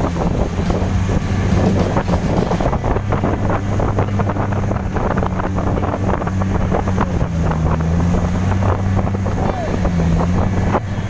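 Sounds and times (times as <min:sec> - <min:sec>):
boat engine running: 0:00.0 - 0:11.0
water splashing along hull: 0:00.0 - 0:11.0
wind buffeting microphone: 0:00.0 - 0:11.0.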